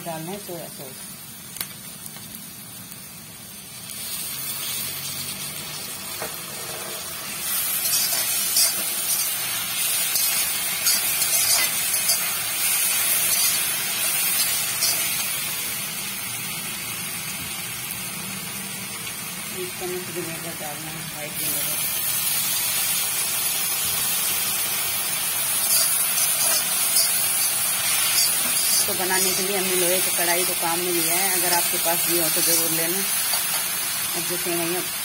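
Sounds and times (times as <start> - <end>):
vegetables sizzling in a pan: 0.0 - 35.0.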